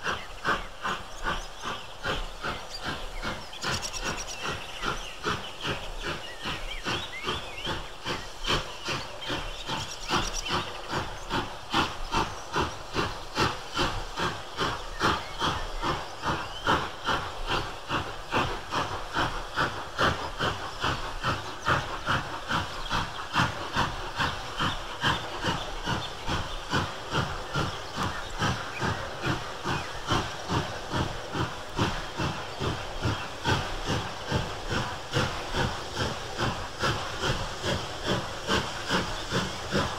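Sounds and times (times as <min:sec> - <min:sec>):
steam locomotive exhaust beating: 0:00.0 - 0:39.9.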